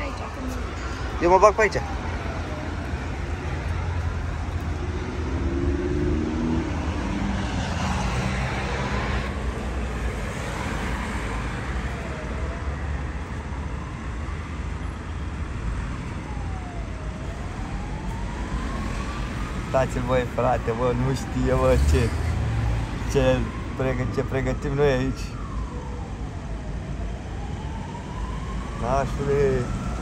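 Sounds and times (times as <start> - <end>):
road traffic rumble: 0.0 - 30.0
siren wailing: 0.0 - 30.0.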